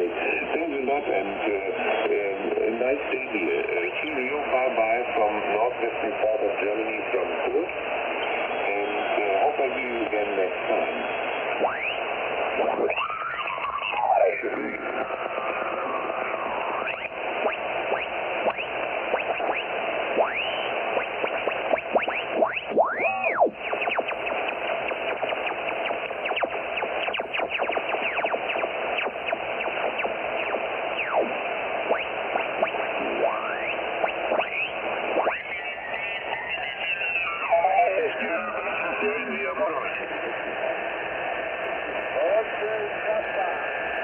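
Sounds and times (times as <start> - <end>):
radio receiver hiss: 0.0 - 44.0.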